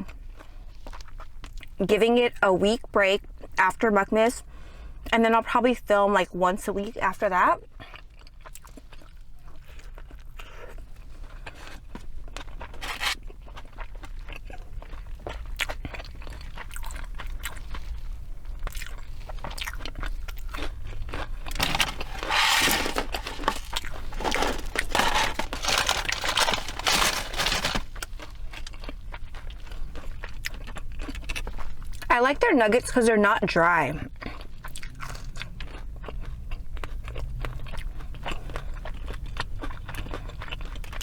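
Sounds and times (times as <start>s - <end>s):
chewing crispy fried food: 0.0s - 3.6s, 6.8s - 32.2s, 33.7s - 41.0s.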